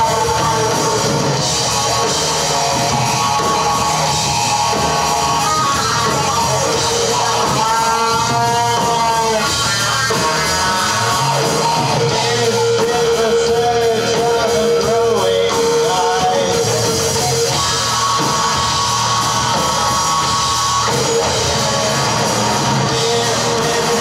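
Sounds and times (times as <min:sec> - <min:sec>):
drum kit: 0:00.0 - 0:24.0
electric guitars: 0:00.0 - 0:24.0
person singing: 0:00.0 - 0:24.0.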